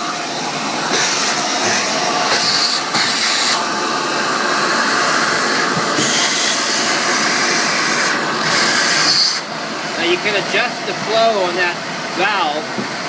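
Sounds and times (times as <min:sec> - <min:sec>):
vacuum cleaner hissing: 0:00.0 - 0:13.0.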